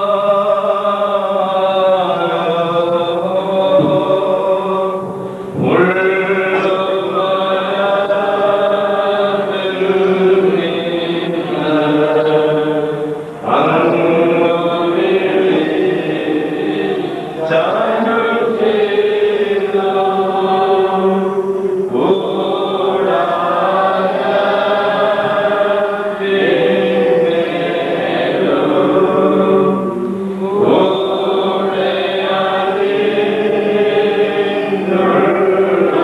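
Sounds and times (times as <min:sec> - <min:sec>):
congregation chanting a hymn: 0:00.0 - 0:36.0.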